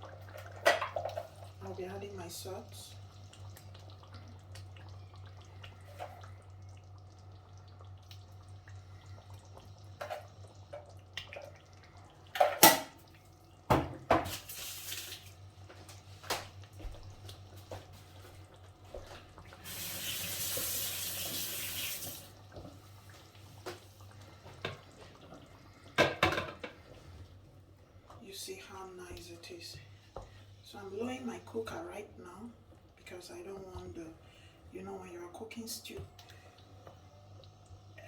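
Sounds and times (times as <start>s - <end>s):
water running: 0.0s - 38.0s.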